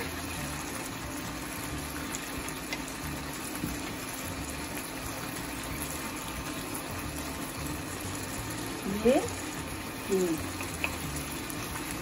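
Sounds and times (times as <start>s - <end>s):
curry sizzling and bubbling in pot: 0.0s - 12.0s.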